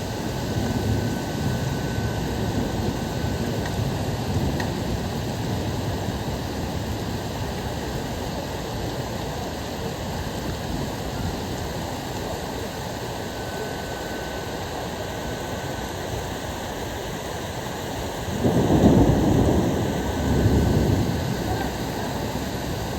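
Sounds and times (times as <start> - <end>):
heavy rain: 0.0 - 22.9.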